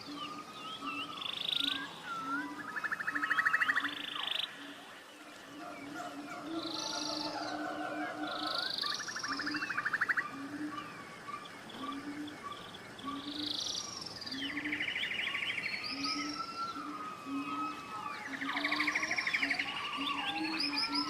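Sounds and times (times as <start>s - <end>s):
forest birds calling: 0.0s - 21.0s.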